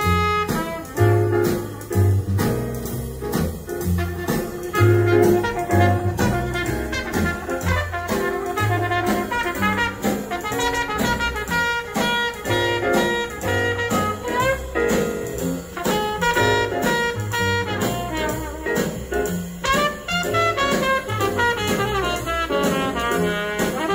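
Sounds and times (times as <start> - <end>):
jazz brass over loudspeakers: 0.0 - 23.9.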